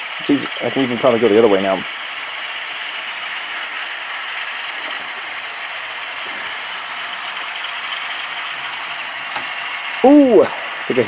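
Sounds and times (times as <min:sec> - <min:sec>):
model train car motor whirring: 0:00.0 - 0:11.0.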